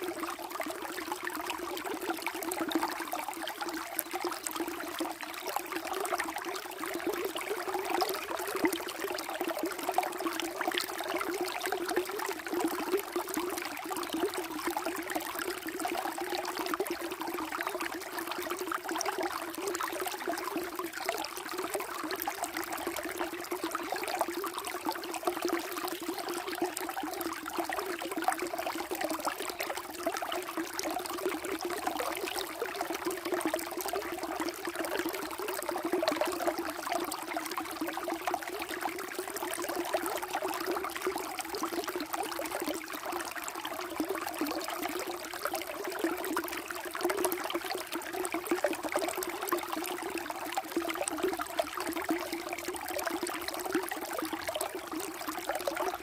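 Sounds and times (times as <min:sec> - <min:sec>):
water flowing and trickling: 0:00.0 - 0:56.0.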